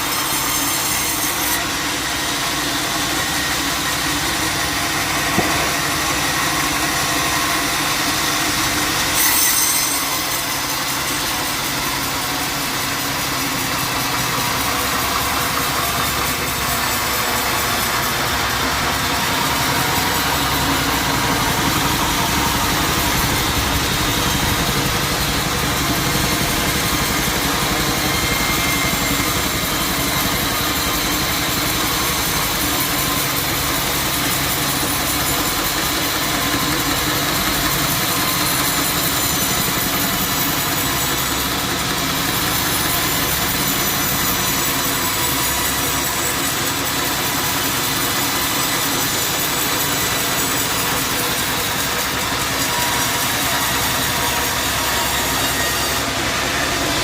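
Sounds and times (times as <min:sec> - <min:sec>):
sawmill cutting wood: 0:00.0 - 0:57.0.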